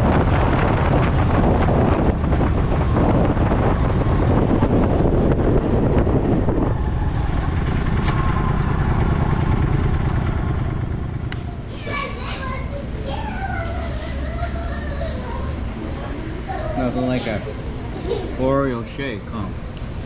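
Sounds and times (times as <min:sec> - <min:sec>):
motorcycle engine hum: 0:00.0 - 0:20.0
wind rushing over microphone: 0:00.0 - 0:20.0.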